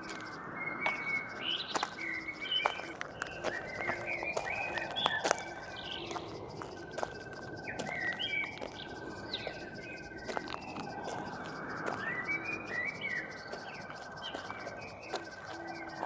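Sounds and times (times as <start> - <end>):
birds chirping: 0.0 - 16.0
pulsing insect trill: 0.0 - 16.0
sharp clicks: 0.1 - 16.0.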